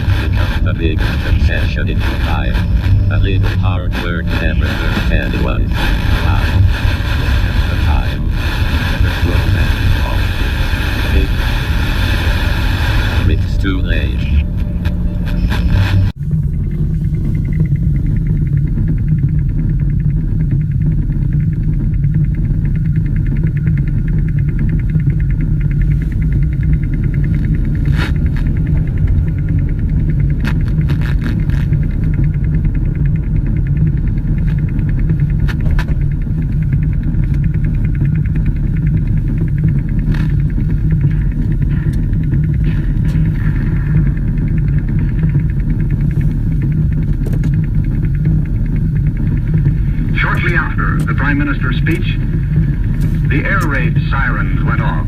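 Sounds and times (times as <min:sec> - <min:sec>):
deep rumbling radio drone: 0:00.0 - 0:55.0.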